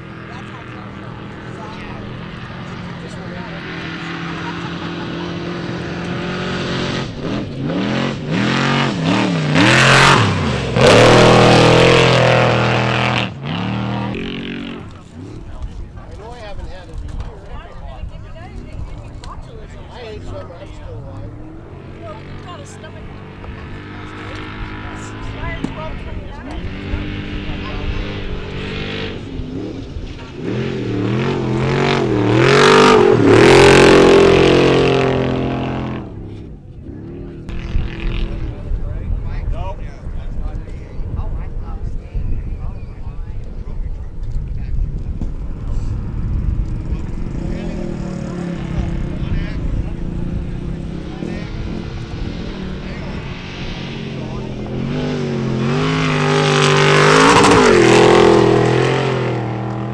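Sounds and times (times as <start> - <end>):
truck engine revving: 0.0 - 15.7, 19.2 - 38.8, 45.4 - 59.9.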